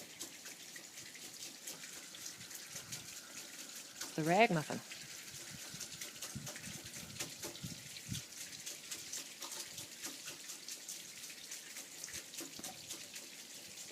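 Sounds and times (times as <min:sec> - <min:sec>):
drips and splashes: 0:00.0 - 0:13.9
water trickling down rain chain: 0:00.0 - 0:13.9.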